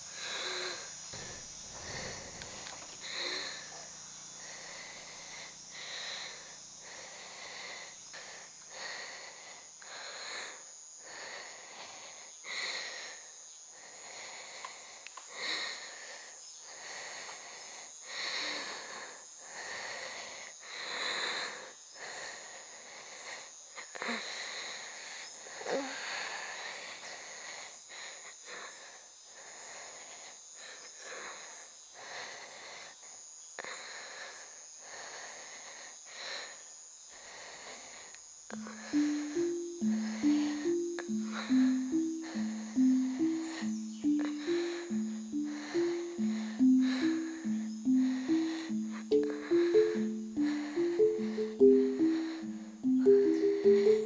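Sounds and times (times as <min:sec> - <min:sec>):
high insect chirp: 0:00.0 - 0:54.0
insects chirring: 0:00.0 - 0:54.0
woman breathing heavily in pain: 0:00.0 - 0:54.0.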